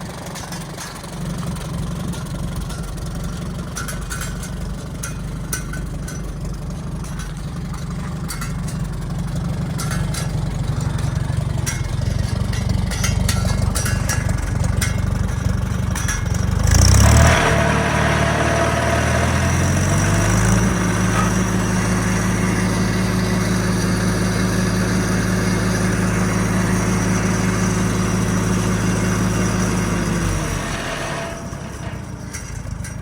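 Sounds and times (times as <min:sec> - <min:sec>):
tractor engine revving: 0:00.0 - 0:33.0.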